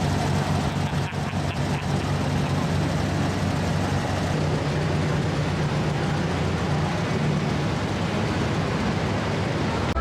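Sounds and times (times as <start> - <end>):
constant rushing noise: 0.0 - 10.0
vehicle engine drone: 0.0 - 10.0.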